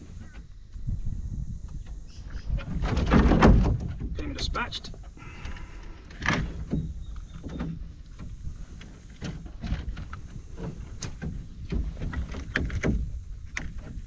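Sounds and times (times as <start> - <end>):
knocks and bumps in a canoe: 0.0 - 14.0
wind rumble on microphone: 0.0 - 14.0.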